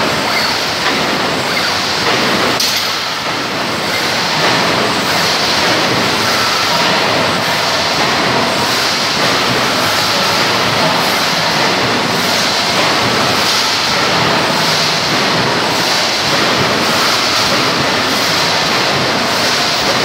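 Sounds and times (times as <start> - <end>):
welding machine line running: 0.0 - 20.0.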